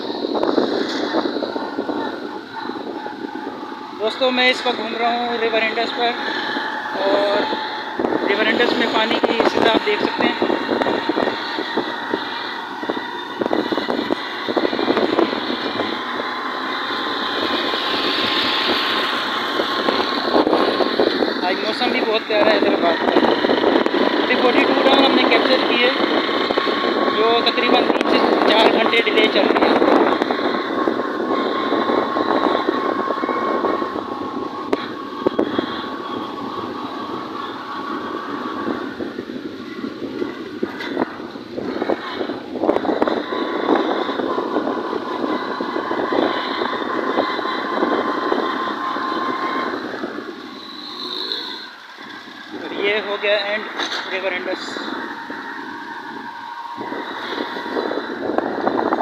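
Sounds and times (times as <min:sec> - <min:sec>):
motorcycle engine drone: 0:00.0 - 0:59.0
road noise: 0:00.0 - 0:59.0
thin steady whine: 0:00.0 - 0:59.0.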